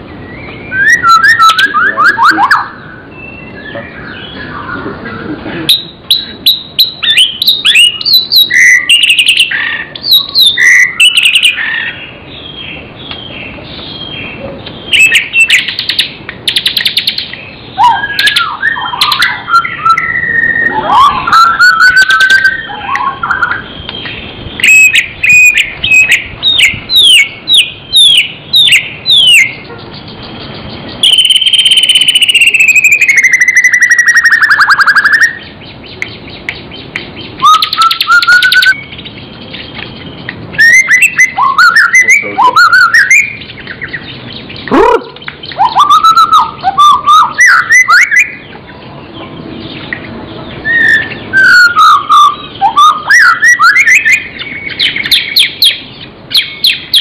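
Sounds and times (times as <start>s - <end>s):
songbird singing varied phrases: 0.0s - 57.0s.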